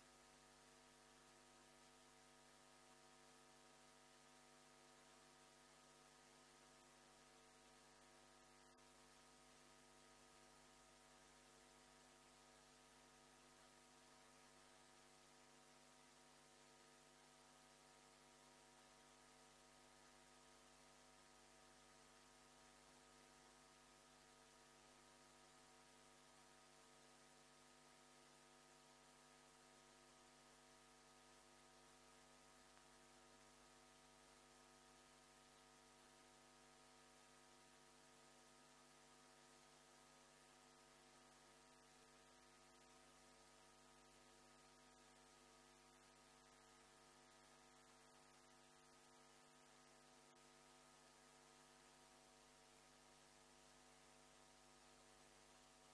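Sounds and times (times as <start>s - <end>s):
faint electrical hum: 0.0s - 55.9s.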